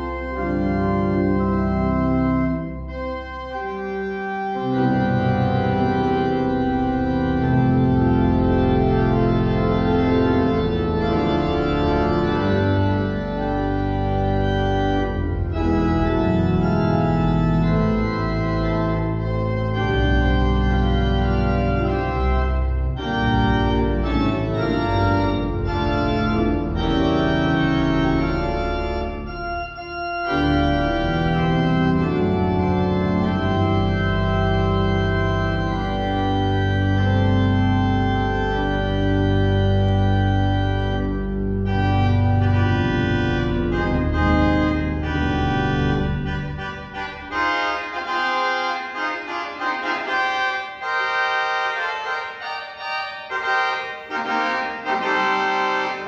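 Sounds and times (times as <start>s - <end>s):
organ chords: 0.0s - 56.0s
organ pedal bass: 0.0s - 56.0s.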